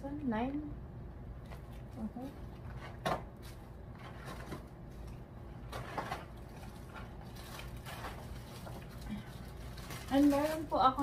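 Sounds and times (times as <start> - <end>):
low room hum: 0.0 - 11.0
small boxes rustling: 1.5 - 11.0.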